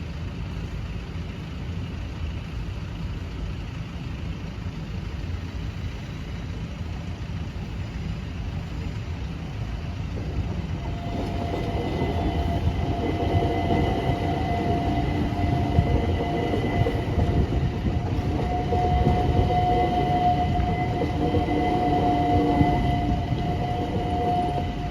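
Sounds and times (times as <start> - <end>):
steady high whine: 0.0 - 24.9
train rumbling: 0.0 - 24.9.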